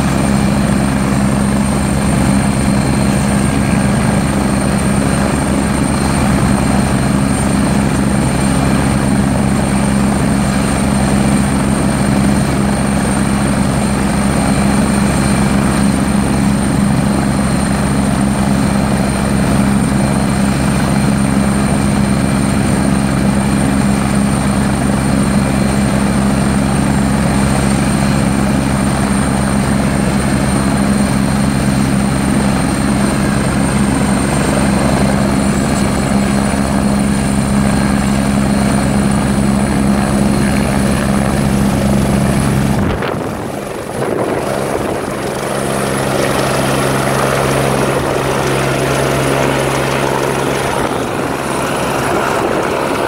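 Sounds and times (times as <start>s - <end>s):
helicopter rotor and engine hum: 0.0s - 53.0s
high turbine whine: 0.0s - 53.0s.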